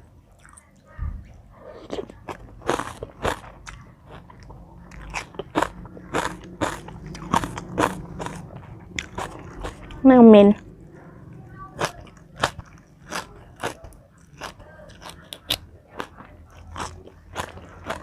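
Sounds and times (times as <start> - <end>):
crunching and chewing food: 0.0 - 18.0.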